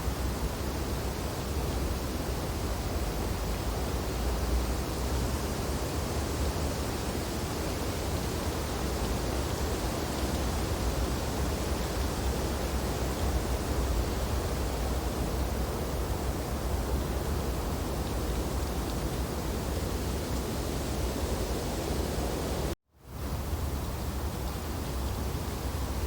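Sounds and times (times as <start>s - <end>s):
wind blowing through tree branches: 0.0s - 26.0s.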